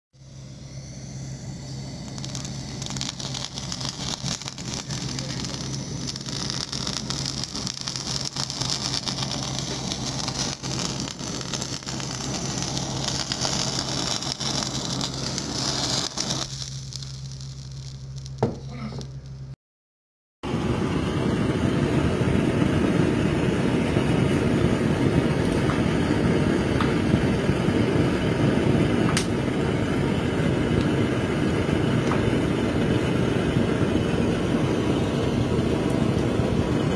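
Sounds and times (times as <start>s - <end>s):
blowtorch flame hissing: 0.2s - 19.3s, 20.4s - 36.9s
loud steady rumbling: 0.2s - 19.5s, 20.4s - 36.9s
steady low hum: 0.2s - 19.6s, 20.5s - 36.9s.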